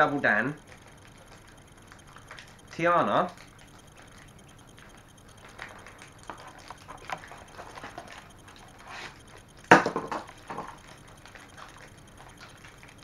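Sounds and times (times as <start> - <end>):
plastic packets crinkling: 0.6 - 13.0.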